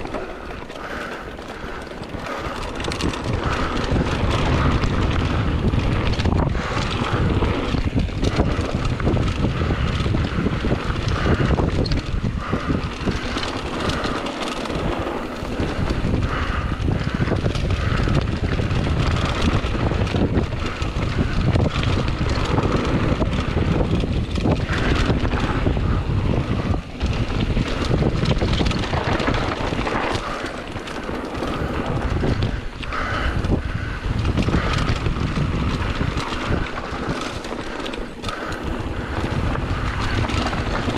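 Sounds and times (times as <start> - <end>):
mountain bike rumbling and rattling: 0.0 - 40.9
wheels knocking on bumps: 0.0 - 40.9
wind buffeting microphone: 0.0 - 40.9.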